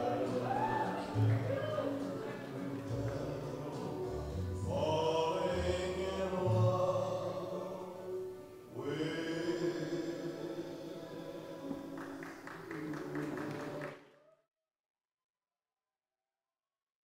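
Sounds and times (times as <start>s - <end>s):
low musical accompaniment: 0.0s - 13.9s
voice singing long notes: 0.0s - 13.9s.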